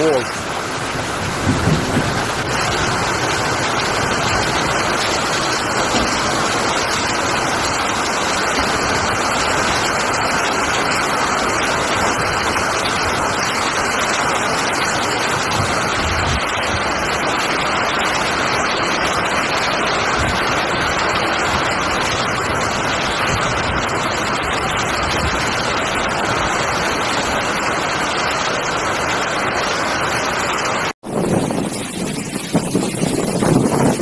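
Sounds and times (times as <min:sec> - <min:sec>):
torrential rain splashing: 0:00.0 - 0:34.0.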